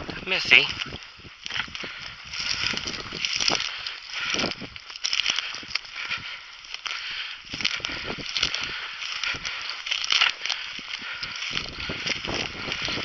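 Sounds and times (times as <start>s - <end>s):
footsteps through dry grass: 0.0s - 13.0s.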